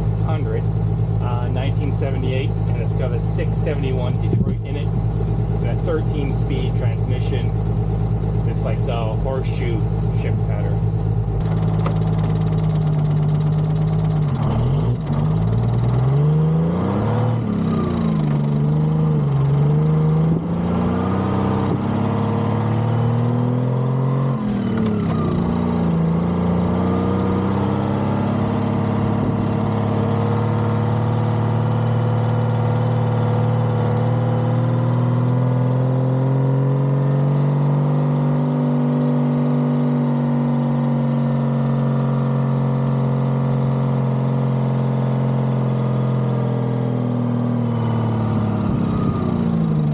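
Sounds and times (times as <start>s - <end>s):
two-stroke diesel truck engine revving: 0.0s - 49.9s.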